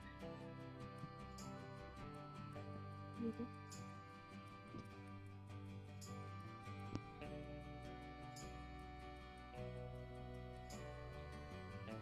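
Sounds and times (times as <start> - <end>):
soft instrumental music with beat: 0.0 - 12.0.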